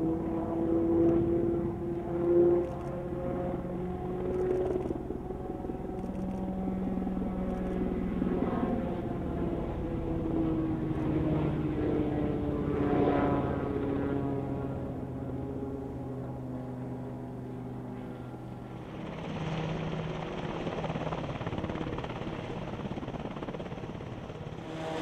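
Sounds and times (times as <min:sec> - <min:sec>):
helicopter flying past: 0:00.0 - 0:25.0.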